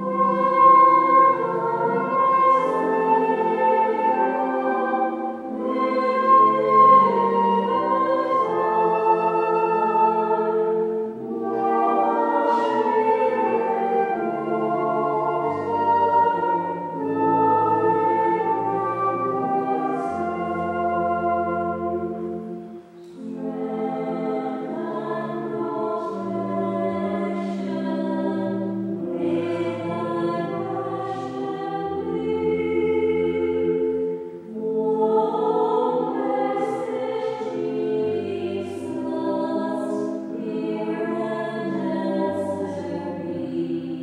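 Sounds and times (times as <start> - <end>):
low instrumental notes: 0.0 - 43.9
church choir singing: 0.0 - 44.0.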